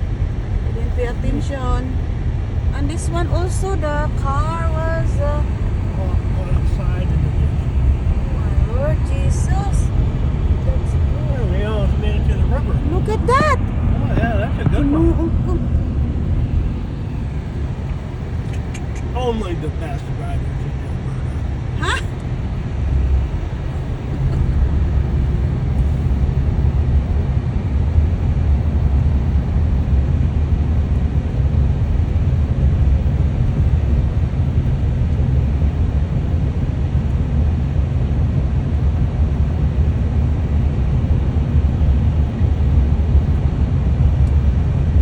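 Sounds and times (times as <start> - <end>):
car engine and tyre drone: 0.0 - 45.0.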